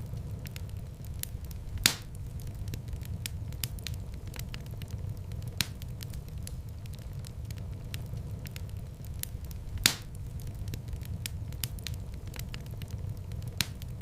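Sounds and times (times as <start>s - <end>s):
loud fire pops: 0.0s - 14.0s
low fire rumble: 0.0s - 14.0s
wood fire crackling: 0.0s - 14.0s.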